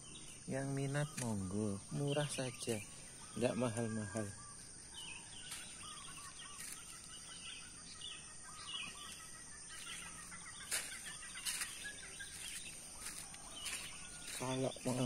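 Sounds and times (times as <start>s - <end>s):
faint outdoor background noise: 0.0s - 15.0s
small birds chirping: 0.0s - 15.0s.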